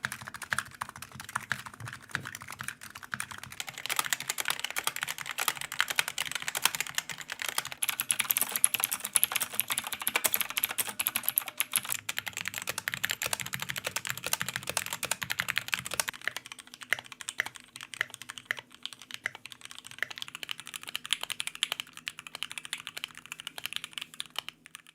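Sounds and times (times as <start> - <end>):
typing on mechanical keyboard: 0.0 - 24.9.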